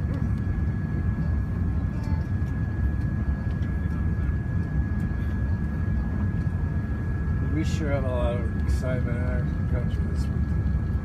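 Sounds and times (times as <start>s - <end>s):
aircraft cabin engine rumble: 0.0s - 11.0s
thin steady whine: 0.0s - 11.0s.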